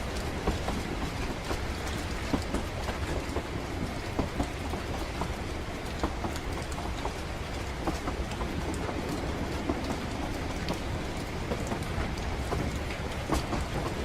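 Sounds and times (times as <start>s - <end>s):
rain pattering: 0.0s - 14.0s
train rumbling: 0.0s - 14.0s.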